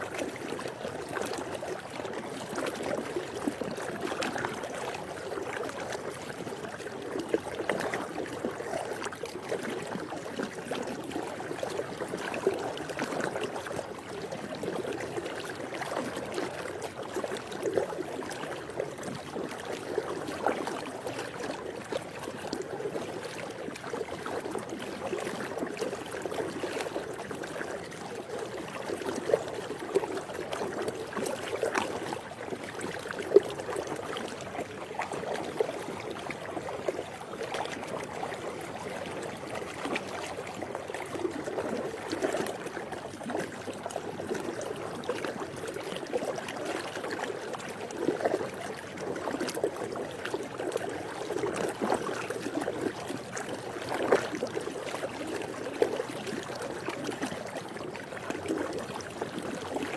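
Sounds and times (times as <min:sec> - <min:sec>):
pool water lapping and trickling: 0:00.0 - 0:59.9
water splashes and drips: 0:00.0 - 0:59.9.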